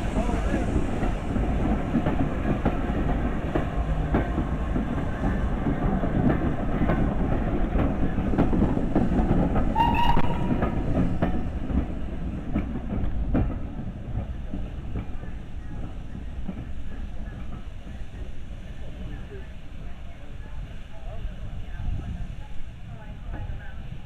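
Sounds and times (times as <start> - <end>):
steam train rumbling on track: 0.0 - 24.0.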